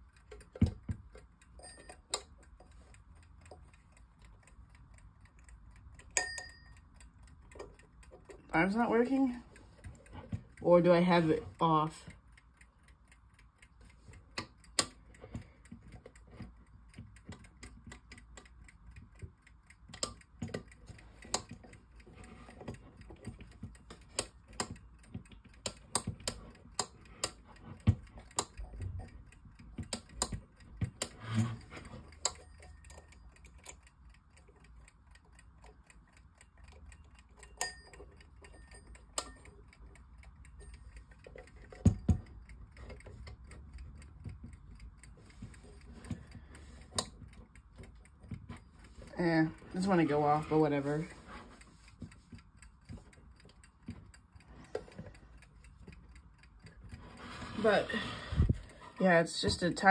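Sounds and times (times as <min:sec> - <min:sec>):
clock mechanism clicks and knocks: 0:00.0 - 0:59.9.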